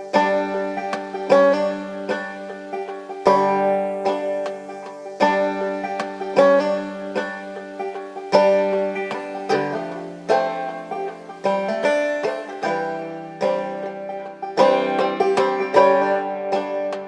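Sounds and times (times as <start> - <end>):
held low notes: 0.0 - 17.0
plucked string notes: 0.0 - 17.0.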